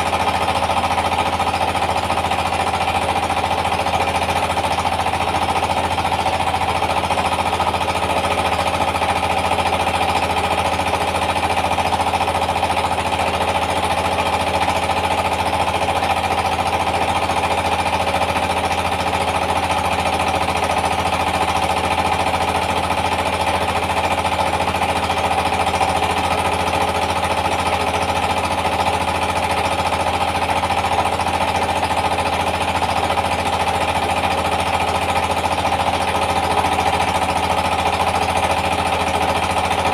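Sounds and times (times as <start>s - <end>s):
diesel engine running: 0.0s - 39.9s
rice mill running: 0.0s - 39.9s.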